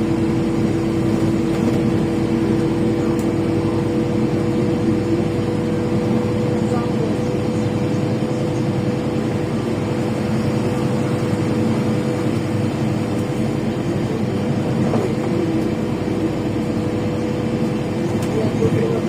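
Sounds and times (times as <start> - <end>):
bus engine rumble from inside: 0.0 - 19.0.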